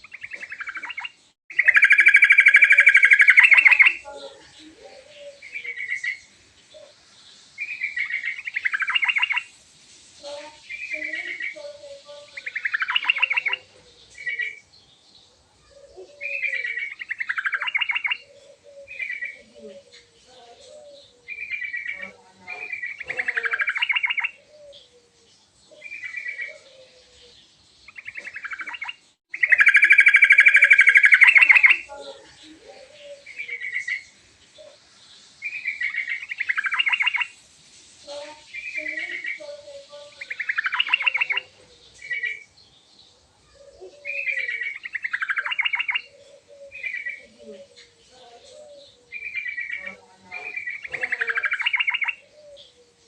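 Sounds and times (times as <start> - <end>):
bird singing chattering phrases: 0.0 - 9.5, 10.2 - 37.4, 38.1 - 53.0.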